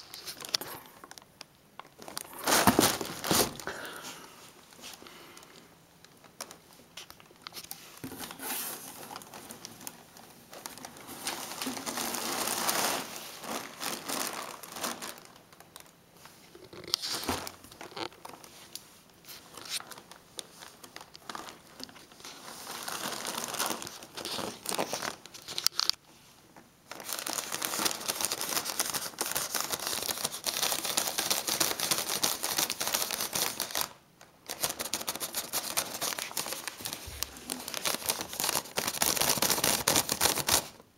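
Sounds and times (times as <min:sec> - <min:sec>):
plastic film crinkling: 0:00.0 - 0:40.8.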